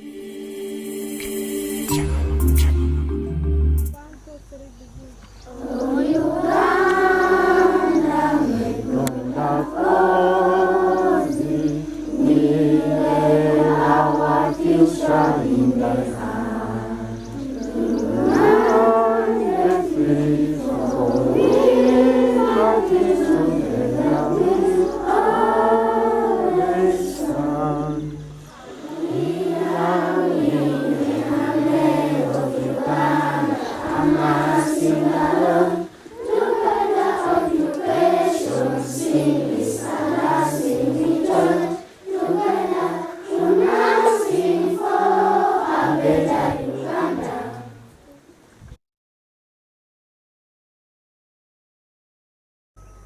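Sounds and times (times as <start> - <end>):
children's choir singing: 0.0 - 2.7, 5.3 - 48.0.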